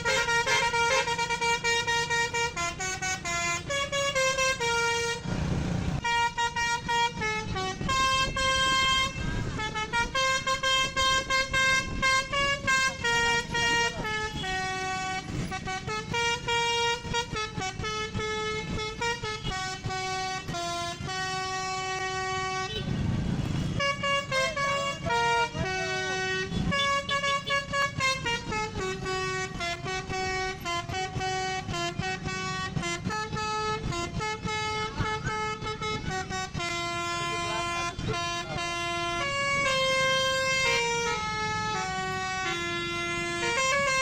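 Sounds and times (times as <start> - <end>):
bus musical horn playing a tune: 0.0 - 44.0.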